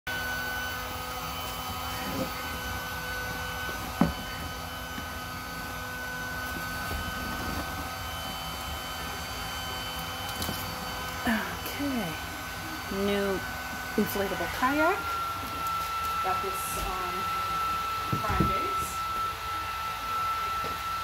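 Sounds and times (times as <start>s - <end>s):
electric air pump humming: 0.1s - 21.0s.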